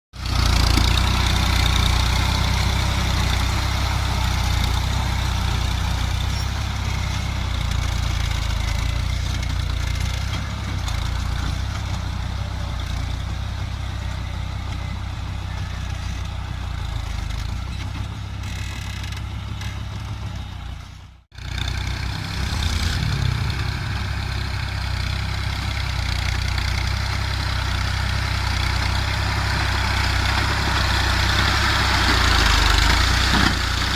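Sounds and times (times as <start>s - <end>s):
tractor diesel engine under load: 0.1s - 33.9s.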